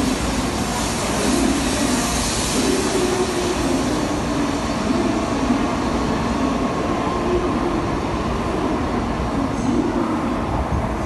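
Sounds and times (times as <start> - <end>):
bullet train rushing past: 0.0 - 11.0.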